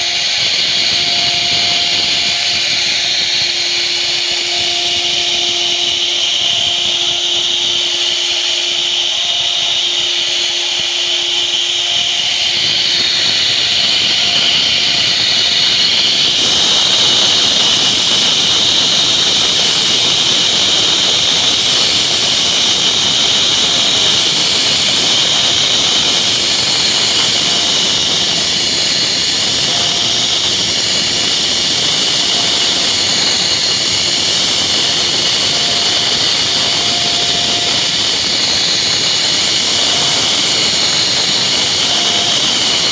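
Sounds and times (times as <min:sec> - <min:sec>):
router spindle cutting wood: 0:00.0 - 0:42.9.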